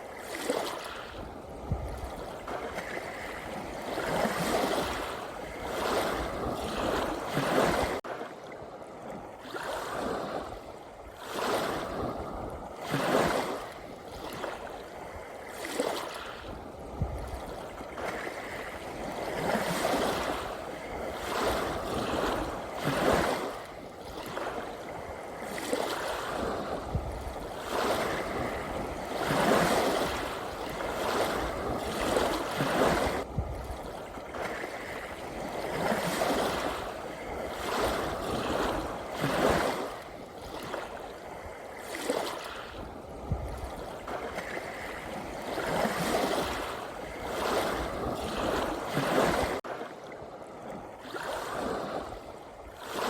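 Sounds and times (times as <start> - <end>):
sea waves washing in: 0.0 - 53.0.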